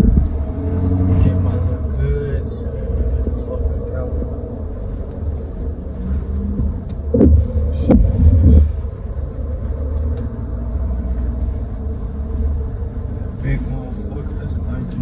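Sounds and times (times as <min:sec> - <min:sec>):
car rumble inside cabin: 0:00.0 - 0:15.0.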